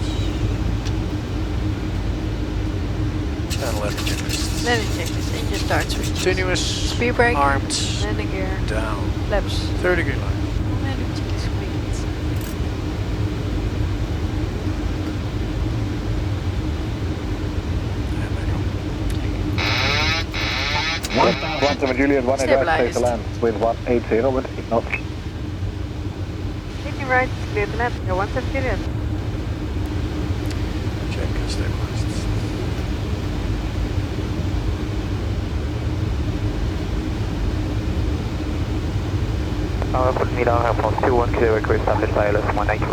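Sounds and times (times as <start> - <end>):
airflow and engine rumble: 0.0 - 42.9
faint steady hum: 0.0 - 42.9.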